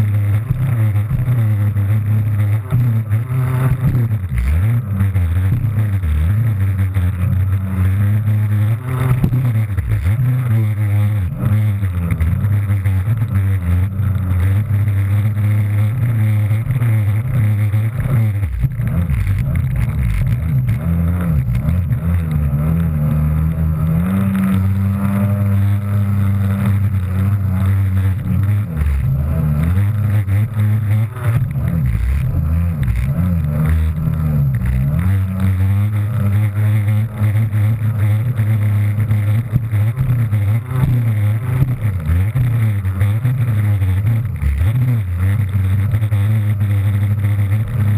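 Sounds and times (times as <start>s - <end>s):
jet ski engine revving: 0.0s - 47.9s.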